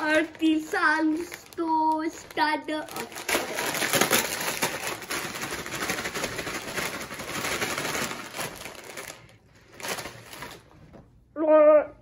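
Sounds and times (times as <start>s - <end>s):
chip bag crinkling: 0.0s - 10.8s.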